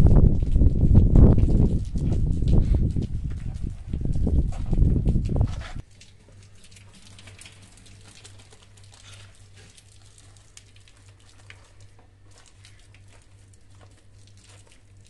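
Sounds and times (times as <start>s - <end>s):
hose water spattering on floor: 0.0s - 15.0s
low steady hum: 0.0s - 15.0s.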